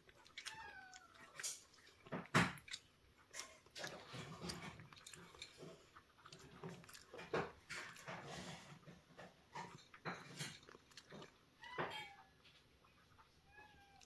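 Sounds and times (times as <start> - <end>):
cat eating wet food: 0.0 - 14.0.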